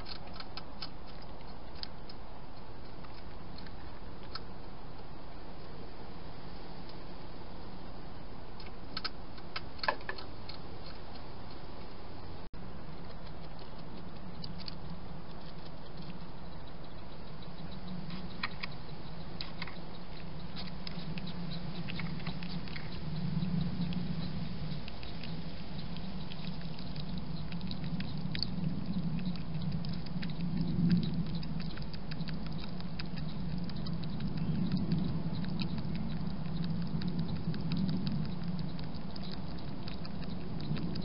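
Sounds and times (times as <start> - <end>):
hedgehog chewing crunchily: 0.0 - 5.8, 8.4 - 41.0
low hum: 0.0 - 41.0.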